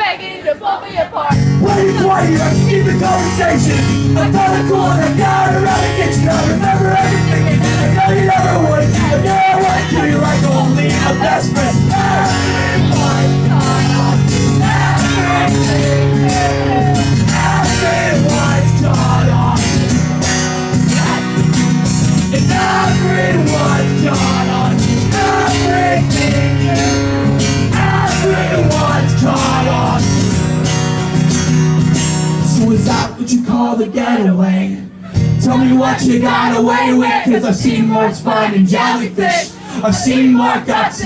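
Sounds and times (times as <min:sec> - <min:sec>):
people singing: 0:00.0 - 0:20.0, 0:20.7 - 0:30.5, 0:32.5 - 0:41.0
acoustic guitar strumming: 0:01.3 - 0:33.5, 0:34.9 - 0:41.0.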